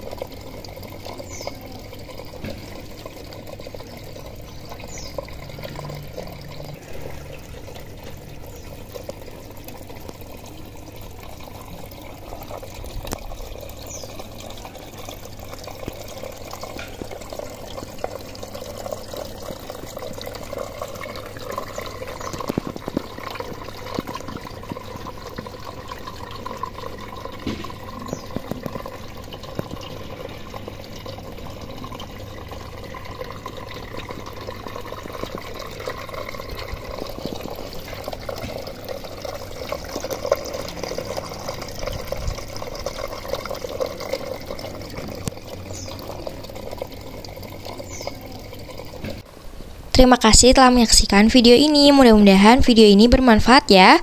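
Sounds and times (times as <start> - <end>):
water running and trickling: 0.0 - 54.0.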